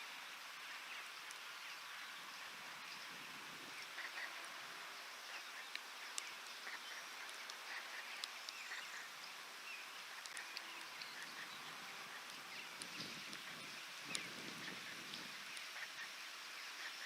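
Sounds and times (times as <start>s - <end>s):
rain hiss: 0.0s - 17.0s
faint bird calls: 0.7s - 17.0s.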